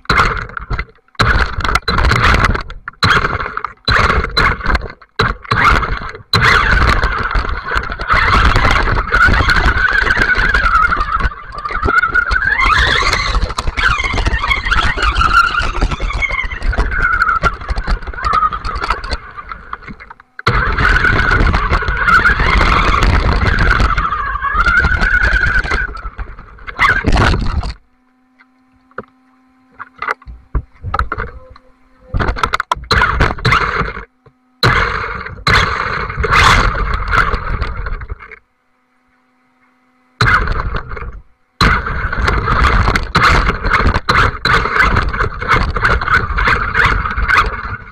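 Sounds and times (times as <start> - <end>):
toy car motor and gears whining: 0.0 - 38.5, 39.6 - 47.9.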